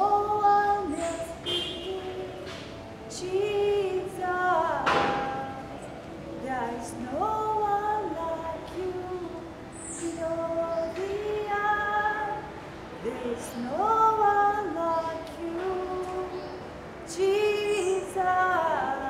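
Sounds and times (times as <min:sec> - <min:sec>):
woman singing worship chorus: 0:00.0 - 0:19.0.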